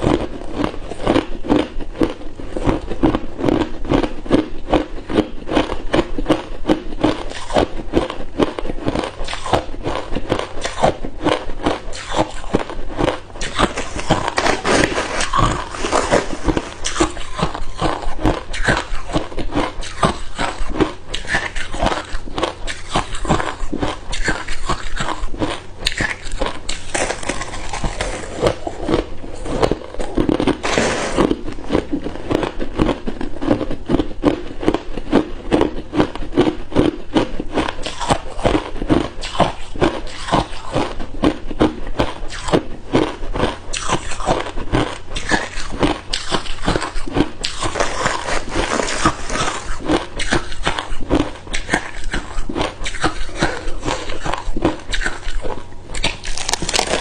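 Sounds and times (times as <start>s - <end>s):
ice cubes being chewed: 0.0s - 57.0s.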